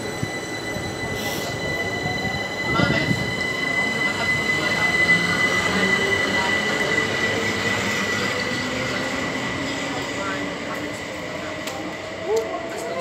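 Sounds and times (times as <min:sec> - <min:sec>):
train high-pitched whine: 0:00.0 - 0:13.0.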